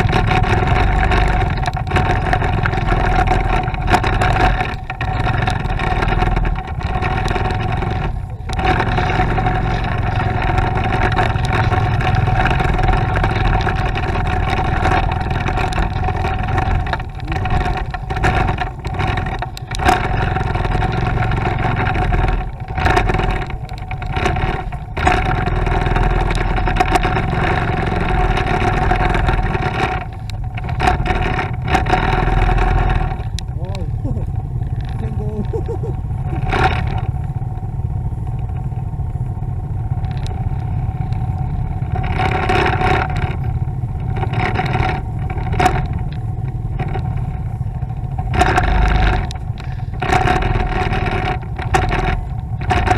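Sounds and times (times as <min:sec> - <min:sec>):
motorcycle engine running: 0:00.0 - 0:52.9
road noise: 0:00.0 - 0:52.9.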